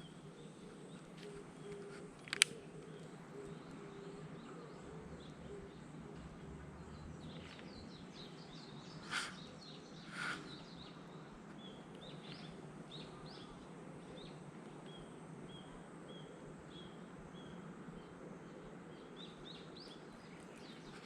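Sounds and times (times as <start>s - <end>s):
bird chirping: 0.0s - 18.2s, 18.9s - 21.0s
faint outdoor ambience: 0.0s - 21.0s.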